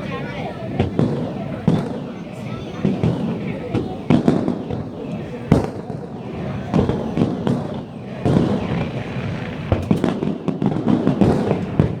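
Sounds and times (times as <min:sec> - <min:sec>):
fireworks bursting with bangs: 0:00.0 - 0:12.0.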